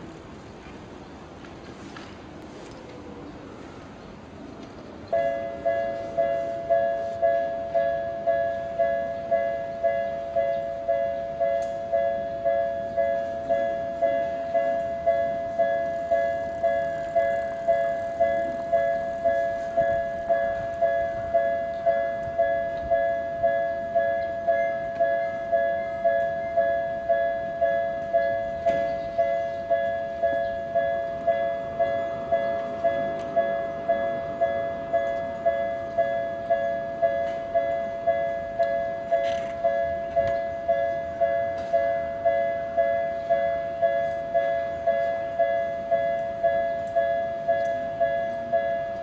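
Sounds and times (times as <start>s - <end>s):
level crossing warning bell: 5.0s - 49.0s.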